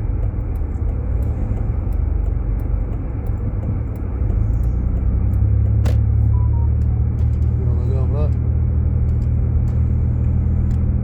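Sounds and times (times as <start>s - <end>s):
road noise inside car cabin: 0.0s - 11.0s.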